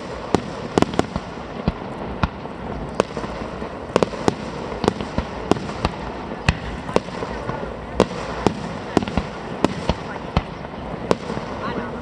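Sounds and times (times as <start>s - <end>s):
fireworks crackling rumble: 0.0s - 12.0s
fireworks sharp bangs: 0.0s - 12.0s.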